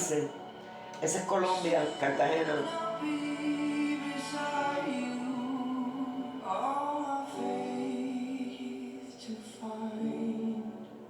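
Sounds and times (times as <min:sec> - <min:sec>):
music with singing voice: 0:00.0 - 0:11.0.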